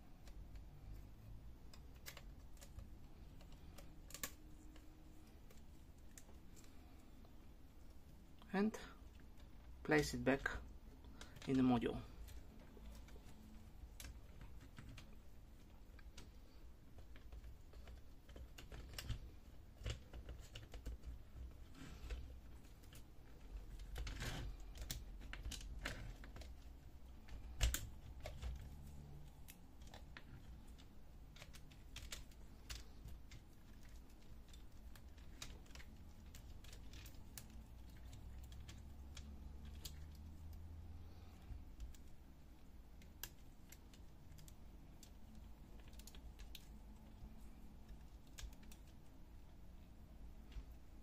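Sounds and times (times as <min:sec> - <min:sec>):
plastic and metal parts clicking: 0:00.1 - 0:07.1, 0:11.0 - 0:51.0.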